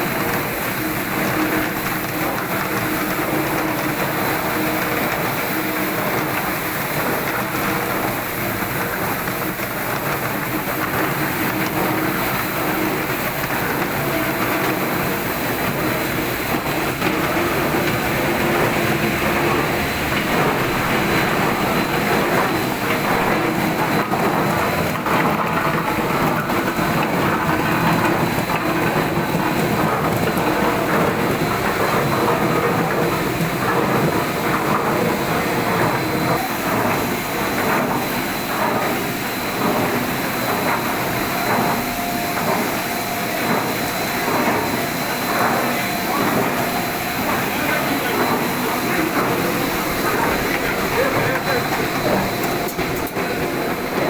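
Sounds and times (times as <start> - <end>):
high machine whine: 0.0 - 54.0.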